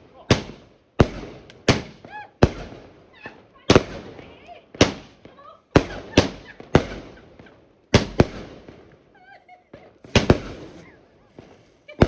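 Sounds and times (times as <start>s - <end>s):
fireworks bangs with crackling: 0.0s - 12.0s.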